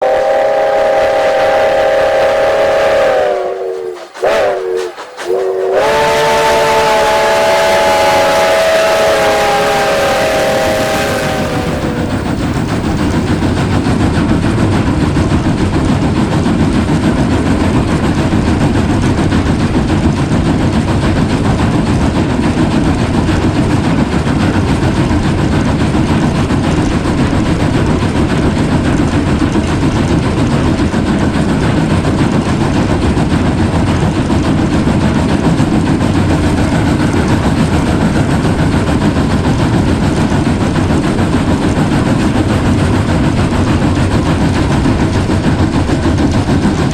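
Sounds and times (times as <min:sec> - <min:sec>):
train rumbling on track: 0:00.0 - 0:46.9.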